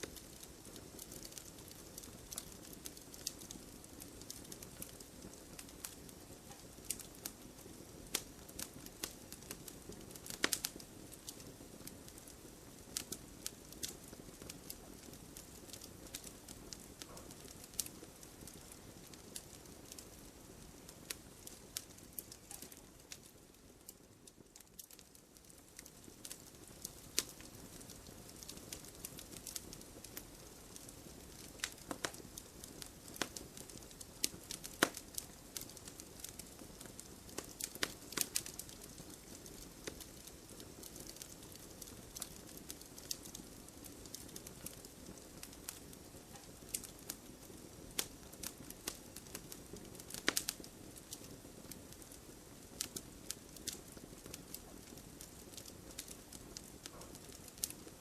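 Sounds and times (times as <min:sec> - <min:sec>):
logs crackling and popping: 0:00.0 - 0:58.0.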